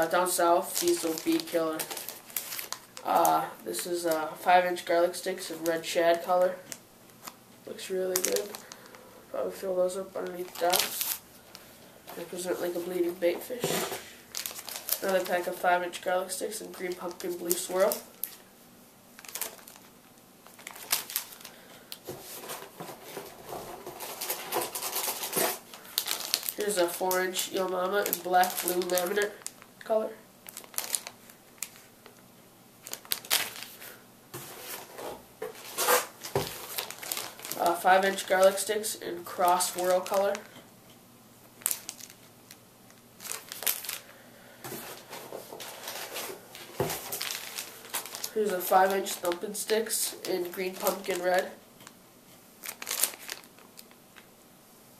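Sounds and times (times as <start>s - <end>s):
plastic packs crinkling: 0.0s - 18.5s, 19.2s - 32.2s, 32.8s - 40.6s, 41.5s - 51.9s, 52.6s - 54.3s.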